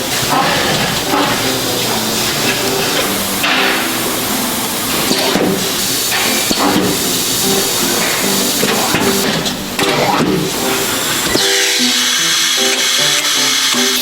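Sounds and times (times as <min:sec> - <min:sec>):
faint background music: 0:00.0 - 0:14.0
steady hiss: 0:00.0 - 0:14.0.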